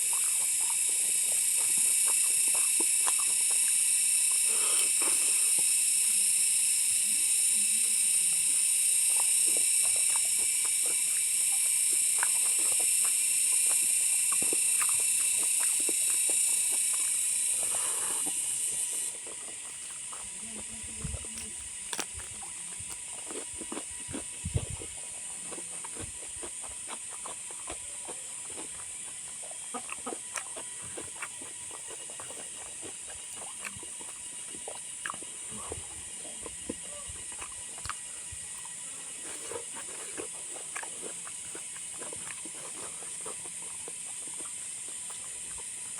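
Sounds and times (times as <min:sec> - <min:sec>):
person chewing and eating: 0:00.0 - 0:45.9.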